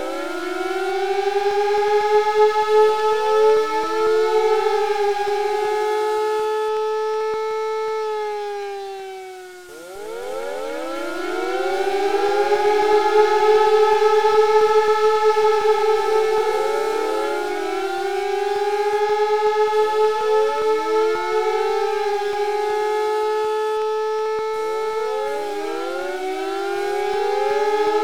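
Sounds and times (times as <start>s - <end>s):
siren wails: 0.0s - 28.0s.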